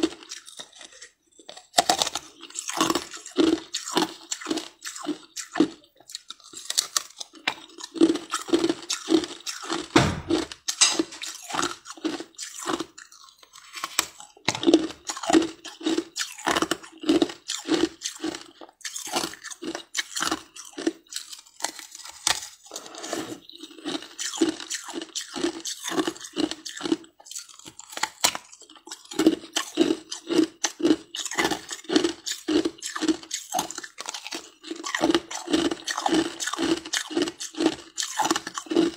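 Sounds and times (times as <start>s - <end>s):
ice being crunched and chewed: 0.0s - 38.9s.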